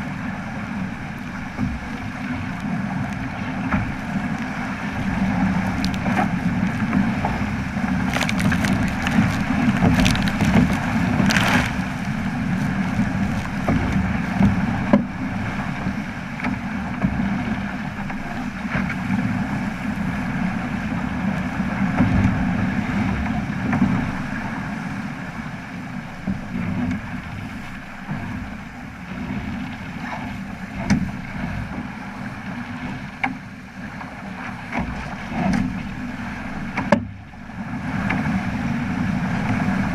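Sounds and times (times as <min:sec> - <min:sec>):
water rushing past boat: 0:00.0 - 0:39.9
wind rumbling on microphone: 0:00.0 - 0:39.9.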